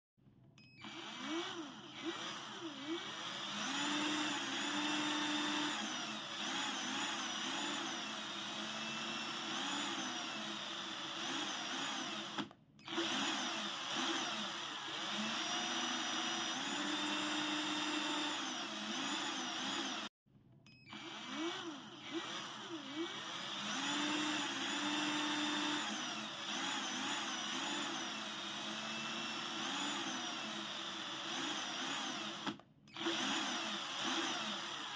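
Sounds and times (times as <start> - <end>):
electric drill motor whine: 0.6 - 20.1, 20.8 - 34.9.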